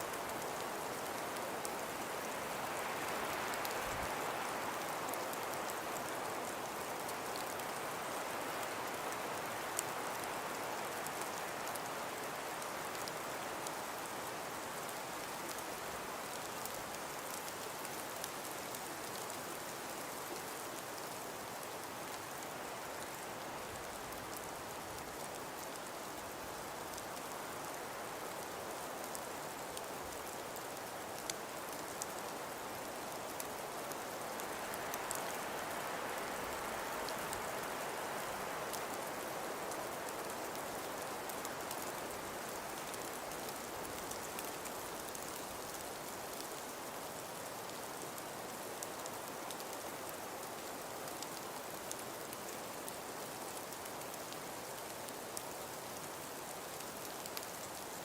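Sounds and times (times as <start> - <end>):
falling precipitation: 0.0 - 58.0
wind: 0.0 - 58.0.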